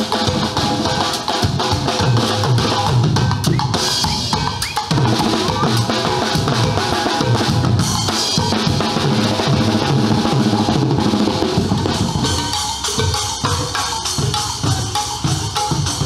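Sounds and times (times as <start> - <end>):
drum kit with cymbals: 0.0 - 16.0.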